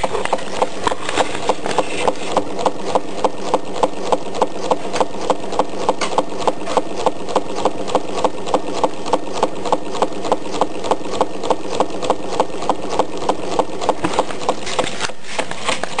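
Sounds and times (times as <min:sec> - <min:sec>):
stirling engine clicking and clattering: 0:00.0 - 0:16.0.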